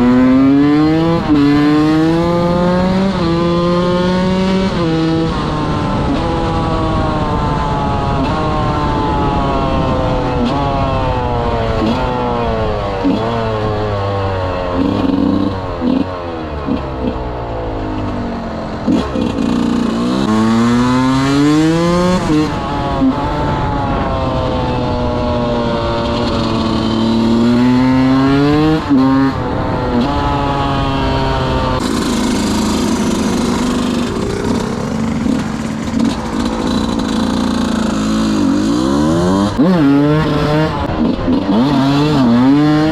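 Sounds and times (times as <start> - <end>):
two-stroke motorcycle engine revving: 0.0 - 42.9.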